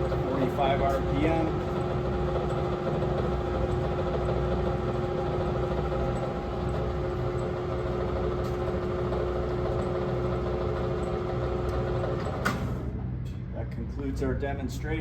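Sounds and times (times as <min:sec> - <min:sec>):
lathe running with mechanical hum: 0:00.0 - 0:13.0.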